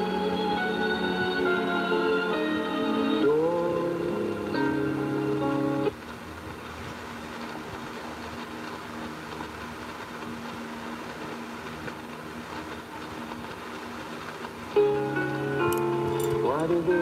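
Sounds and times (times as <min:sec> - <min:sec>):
faint steady hum: 0:00.0 - 0:17.0
radio music: 0:00.0 - 0:17.0
radio static hiss: 0:00.0 - 0:17.0.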